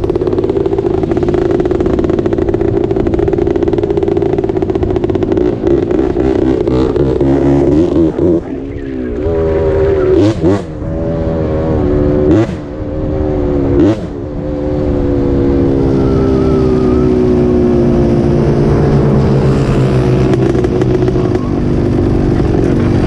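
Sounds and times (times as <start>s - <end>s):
off-road engines revving: 0.0s - 23.0s.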